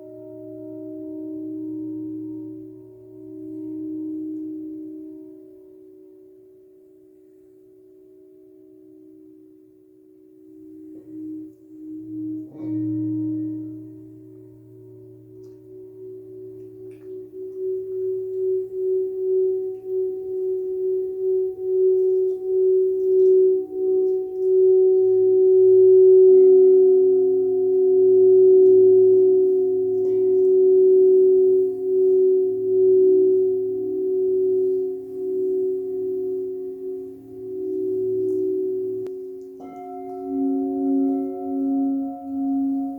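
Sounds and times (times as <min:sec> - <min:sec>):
crystal singing bowls: 0:00.0 - 0:42.9.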